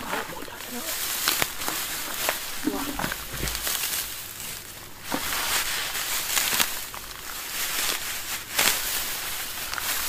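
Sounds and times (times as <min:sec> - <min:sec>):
dry straw rustling and crackling: 0:00.0 - 0:10.0.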